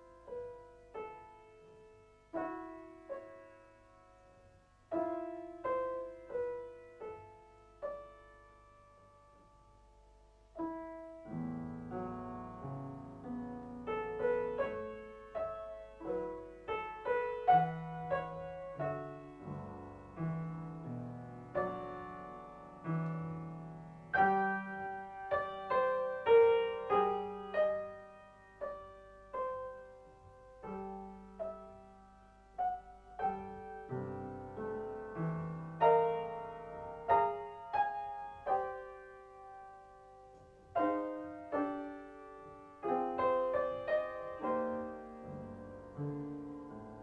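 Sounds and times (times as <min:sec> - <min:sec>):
piano notes and chords: 0:00.0 - 0:47.0.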